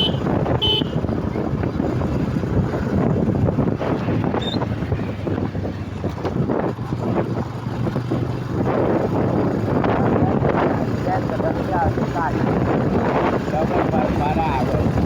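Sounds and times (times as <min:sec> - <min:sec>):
unmuffled engine running rough: 0:00.0 - 0:15.0
wind on microphone: 0:00.0 - 0:15.0.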